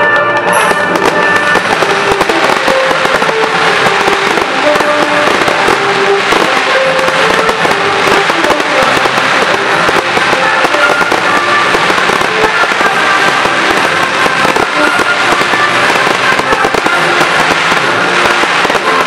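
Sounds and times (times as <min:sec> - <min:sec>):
fireworks cracking and banging: 0:00.0 - 0:19.0
orchestral film music: 0:00.0 - 0:19.0.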